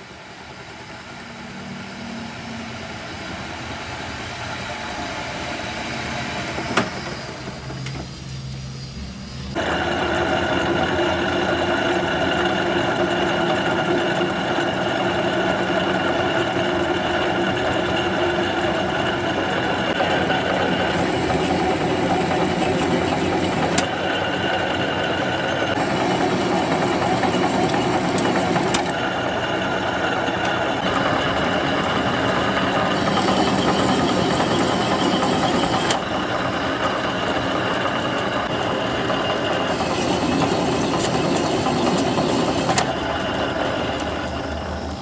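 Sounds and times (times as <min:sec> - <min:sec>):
metal lathe whirring: 0:00.0 - 0:45.0.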